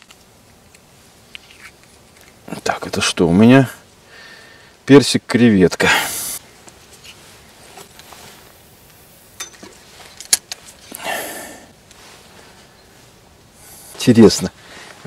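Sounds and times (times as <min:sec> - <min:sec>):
soft rush of noise: 0:00.0 - 0:15.0.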